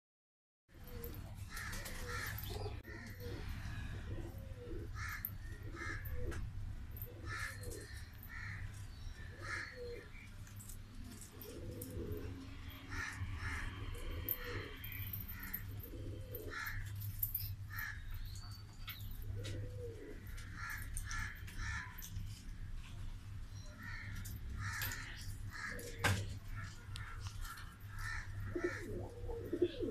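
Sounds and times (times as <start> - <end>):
pigeons cooing: 0.8 - 22.3, 23.8 - 29.9.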